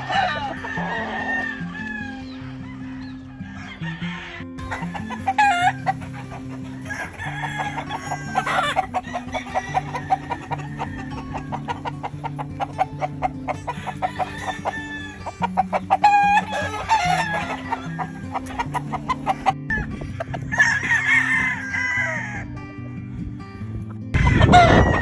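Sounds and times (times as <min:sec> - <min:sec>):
rooster crowing: 0:00.0 - 0:12.1, 0:13.5 - 0:19.0, 0:19.7 - 0:22.7, 0:24.2 - 0:25.0
fowl clucking: 0:00.0 - 0:22.6, 0:24.1 - 0:25.0
background music with low notes: 0:00.0 - 0:25.0.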